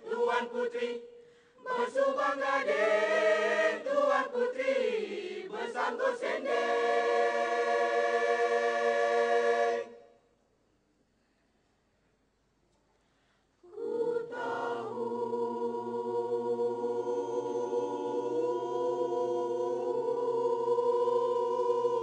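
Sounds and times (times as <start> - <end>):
mixed choir singing: 0.0 - 10.1, 13.6 - 22.0.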